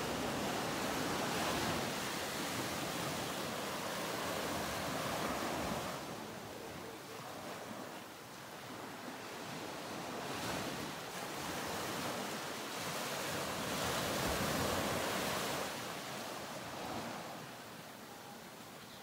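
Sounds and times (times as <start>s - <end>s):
ocean surf washing ashore: 0.0s - 18.7s.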